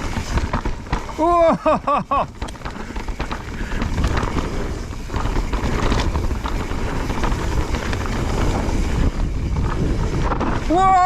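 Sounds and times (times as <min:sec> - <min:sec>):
bike tyres knocking and rattling: 0:00.0 - 0:11.0
wind buffeting microphone: 0:00.0 - 0:11.0.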